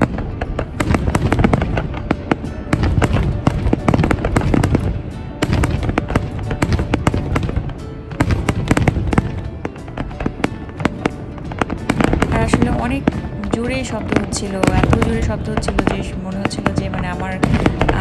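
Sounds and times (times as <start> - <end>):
crackling firework stars: 0.0 - 18.0.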